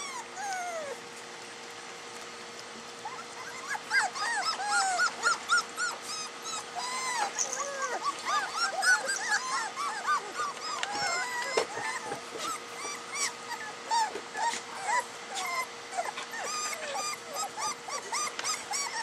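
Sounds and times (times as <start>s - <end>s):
puppies whimpering and yipping: 0.0s - 19.0s.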